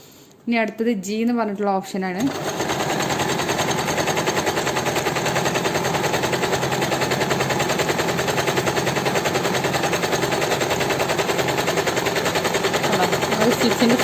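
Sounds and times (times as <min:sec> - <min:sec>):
electric sewing machine running: 0:02.2 - 0:14.0.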